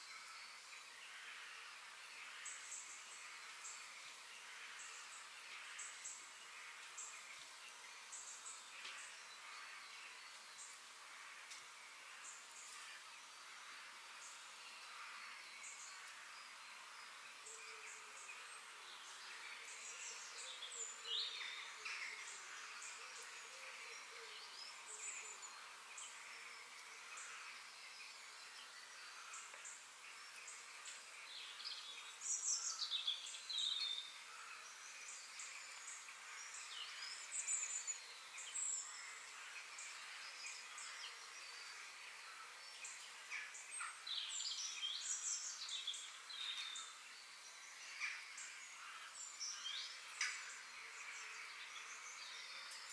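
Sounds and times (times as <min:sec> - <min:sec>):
forest birds singing: 0:00.0 - 0:52.9.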